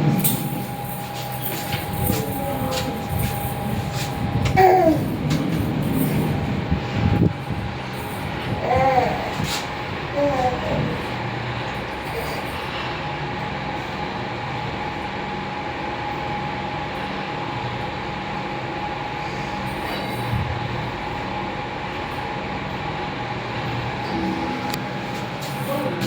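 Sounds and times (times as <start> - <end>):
constant whine: 0.0 - 26.0
lift humming and rumbling: 0.0 - 26.0.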